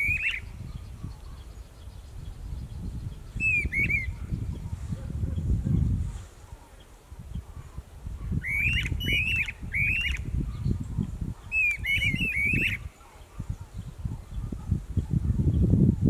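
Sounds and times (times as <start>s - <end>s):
birds calling in duet: 0.0s - 14.6s.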